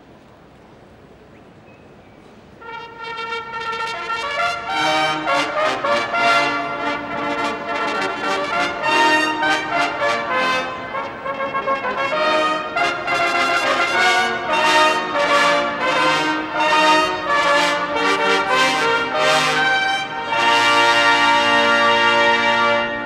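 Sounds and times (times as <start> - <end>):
low arena hum: 0.0 - 23.0
trumpets playing a fanfare: 2.6 - 23.0.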